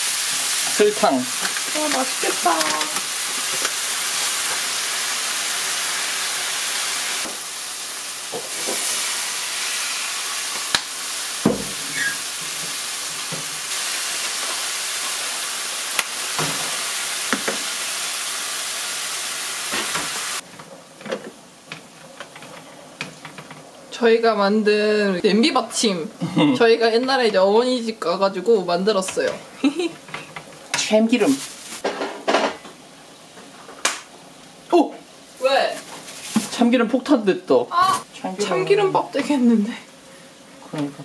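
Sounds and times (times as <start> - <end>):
rice sizzling in a frying pan: 0.0 - 41.0.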